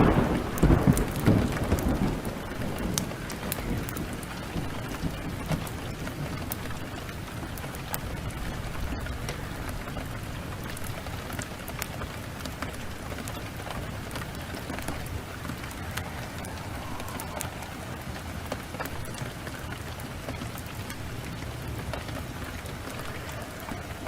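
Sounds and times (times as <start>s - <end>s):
rain downpour: 0.0s - 24.0s
wood fire crackling: 0.0s - 24.0s.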